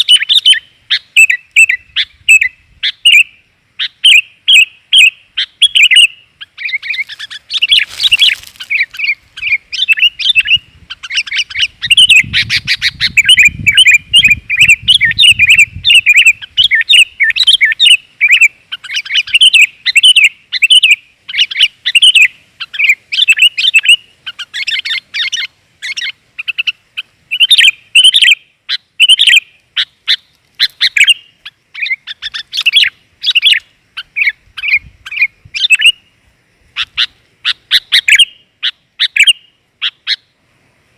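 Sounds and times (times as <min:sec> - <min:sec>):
bird chirping loudly: 0:00.0 - 0:36.1, 0:36.8 - 0:40.3.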